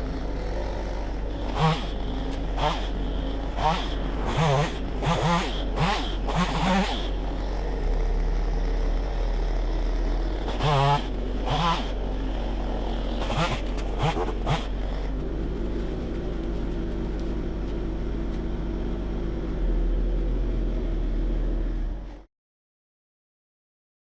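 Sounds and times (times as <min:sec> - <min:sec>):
engine running steadily: 0:00.0 - 0:22.3.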